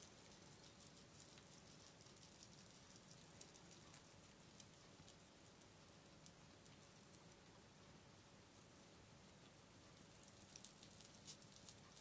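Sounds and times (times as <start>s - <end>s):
guinea pigs chewing leaves: 0.0s - 12.0s.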